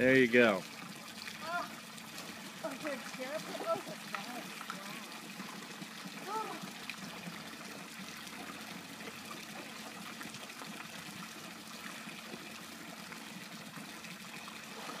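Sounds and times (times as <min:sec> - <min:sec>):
water splashing into pool: 0:00.0 - 0:15.0.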